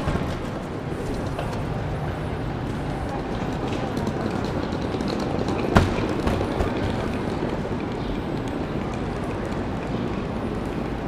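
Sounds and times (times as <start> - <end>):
people passing: 0.0 - 11.0.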